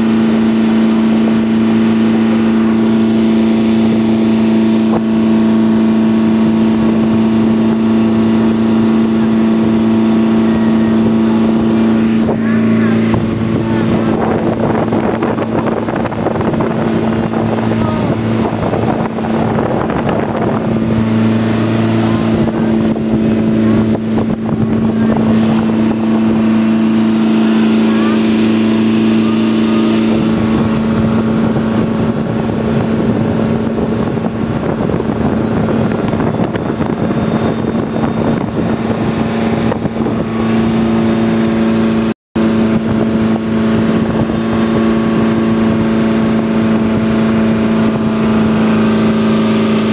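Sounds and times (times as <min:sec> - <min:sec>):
boat engine running: 0:00.0 - 0:49.9
water rushing along hull: 0:00.0 - 0:49.9.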